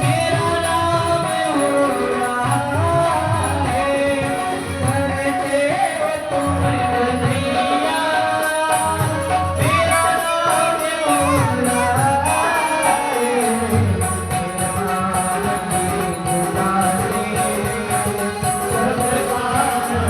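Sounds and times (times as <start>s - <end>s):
instrumental accompaniment: 0.0s - 20.0s
person singing: 0.0s - 20.0s
steady percussion beat: 0.0s - 20.0s.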